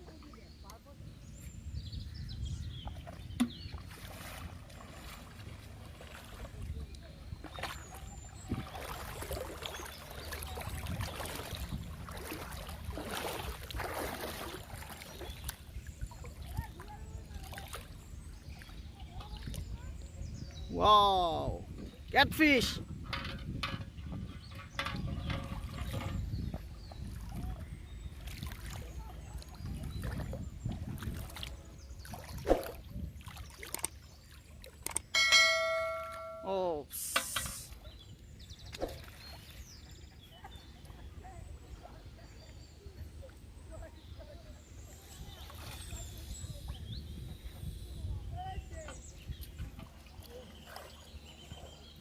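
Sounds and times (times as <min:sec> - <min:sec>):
water sloshing and splashing: 0:02.6 - 0:20.6, 0:21.6 - 0:47.7, 0:48.4 - 0:52.0.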